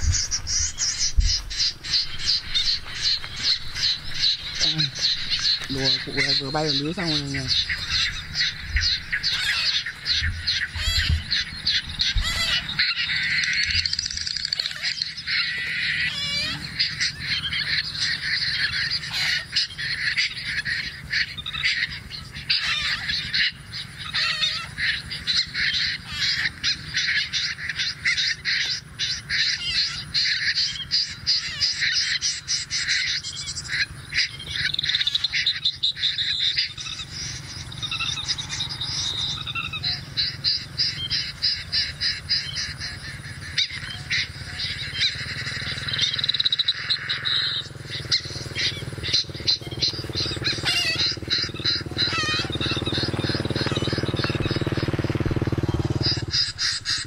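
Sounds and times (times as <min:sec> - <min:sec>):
birds chattering: 0:00.0 - 0:57.0.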